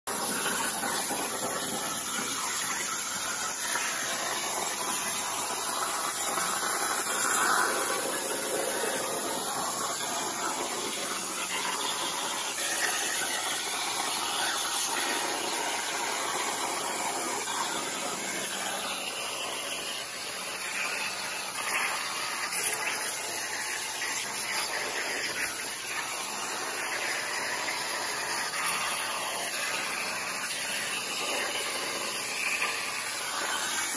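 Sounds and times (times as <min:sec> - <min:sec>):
plasma torch arc hissing: 0:00.1 - 0:33.9.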